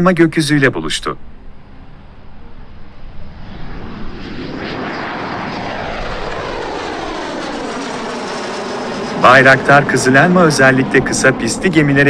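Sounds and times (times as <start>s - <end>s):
jet engine passing overhead: 1.0s - 12.0s.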